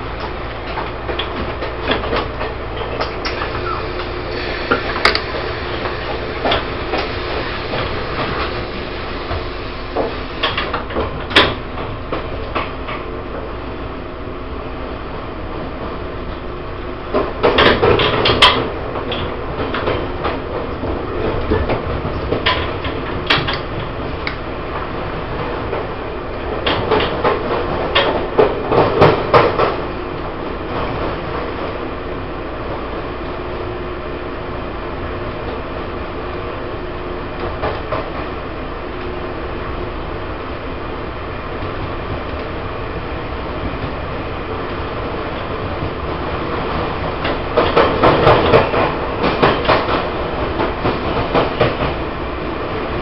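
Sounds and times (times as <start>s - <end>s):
train rolling rumble: 0.0s - 53.0s.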